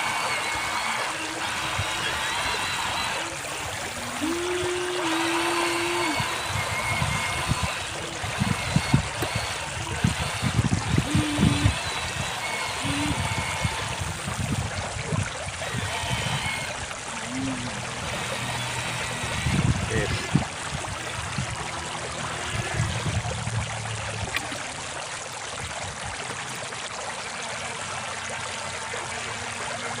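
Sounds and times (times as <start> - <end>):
bumps and splashes: 0.0 - 30.0
river water trickling: 0.0 - 30.0.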